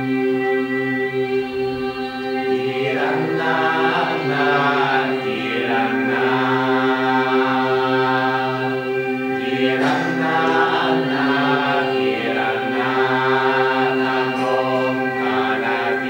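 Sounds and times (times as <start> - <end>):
choir overtone singing over drone: 0.0 - 16.0.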